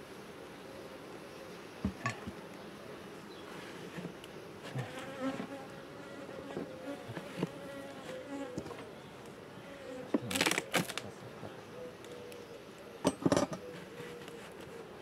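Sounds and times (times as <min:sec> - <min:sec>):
honeybees buzzing: 0:00.3 - 0:12.8.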